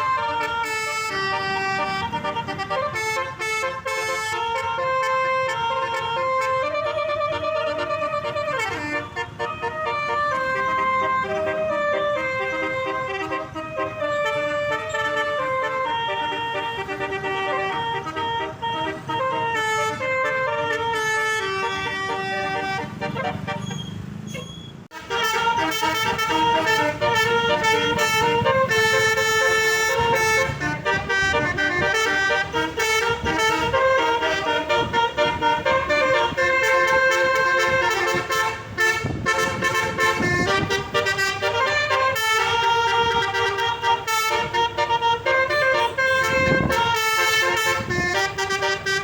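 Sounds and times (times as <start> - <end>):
bus horn playing a melody: 0.0 - 24.0, 24.9 - 49.0.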